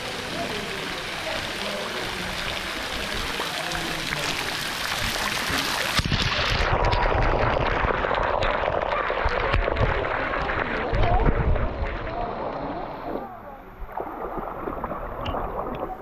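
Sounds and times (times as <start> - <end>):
muffled water pouring over microphone: 0.0 - 16.0
swimmer splashing: 0.0 - 16.0
water splashing into pool: 0.0 - 16.0.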